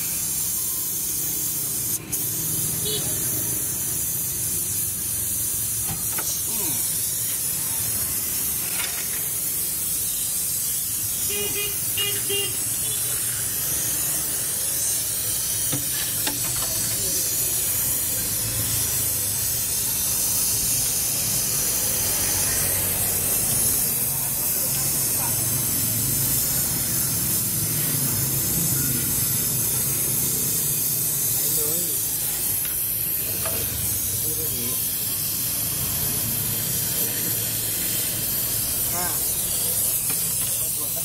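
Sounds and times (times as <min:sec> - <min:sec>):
gas torch hissing: 0:00.0 - 0:41.0.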